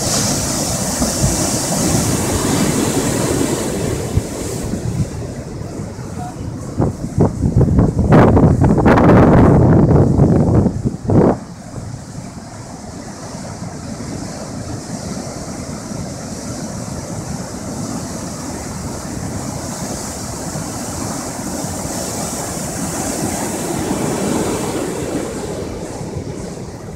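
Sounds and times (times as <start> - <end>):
waves breaking against seawall: 0.0 - 26.9.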